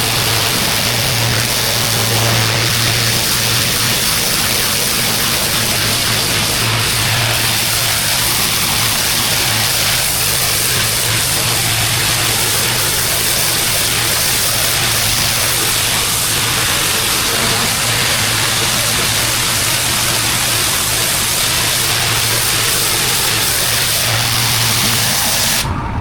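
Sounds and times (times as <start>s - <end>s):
high-pressure water jet hissing: 0.0s - 26.0s
pressure washer engine running: 0.0s - 26.0s.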